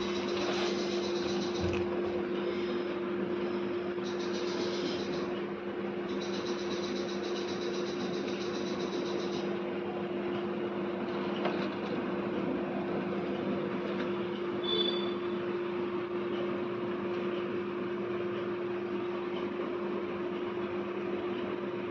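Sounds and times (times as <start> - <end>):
machine hum: 0.0 - 21.9.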